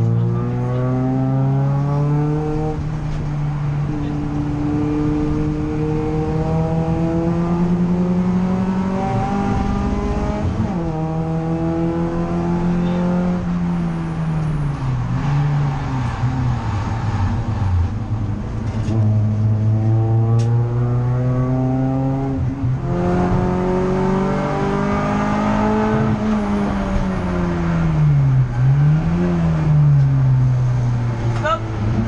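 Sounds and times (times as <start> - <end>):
race car engine accelerating: 0.0 - 32.0.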